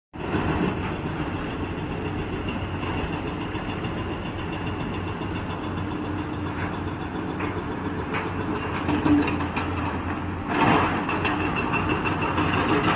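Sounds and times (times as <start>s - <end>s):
construction machinery engines running: 0.2s - 12.9s.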